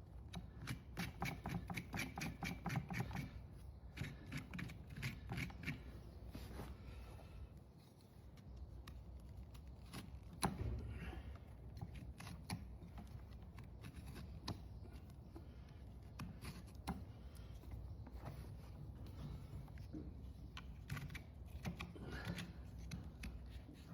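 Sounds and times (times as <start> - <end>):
trimming tools scraping hoof: 0.2 - 6.1, 8.4 - 10.8, 11.5 - 23.9.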